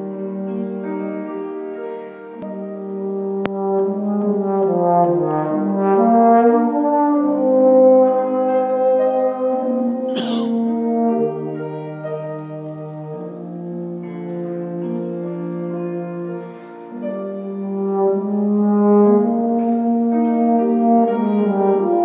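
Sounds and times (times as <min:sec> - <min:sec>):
brass instrument melody: 0:00.0 - 0:22.0
piano accompaniment: 0:00.0 - 0:22.0.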